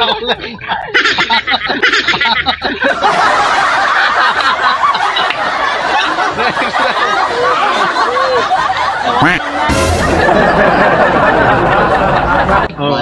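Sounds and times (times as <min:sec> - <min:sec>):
group of men laughing: 0:00.0 - 0:13.0.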